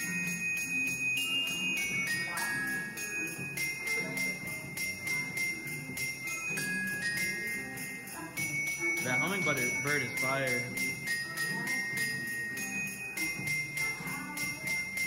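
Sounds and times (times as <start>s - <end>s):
christmas song: 0.0s - 15.0s
sleigh bells jingling: 0.0s - 15.0s.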